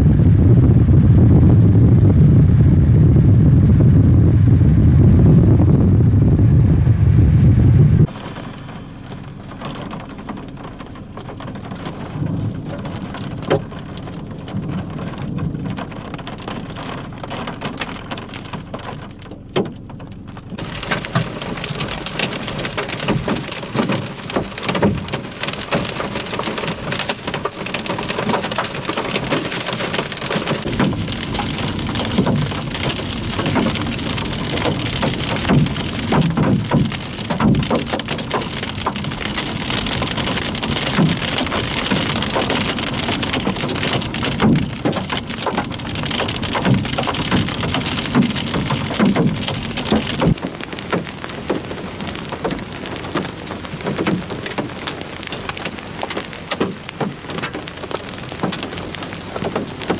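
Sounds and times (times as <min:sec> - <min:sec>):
rain and hail on vehicle: 0:00.0 - 0:59.9.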